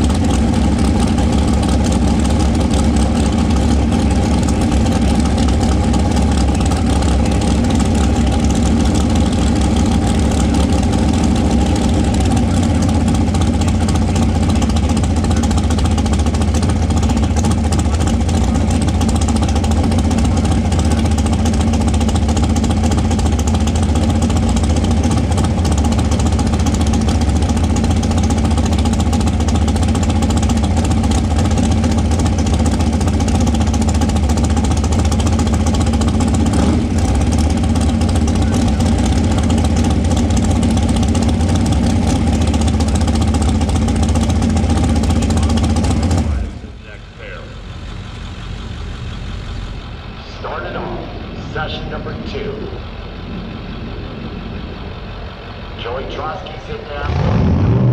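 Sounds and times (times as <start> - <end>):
dragster engine idling loudly: 0.0 - 57.9.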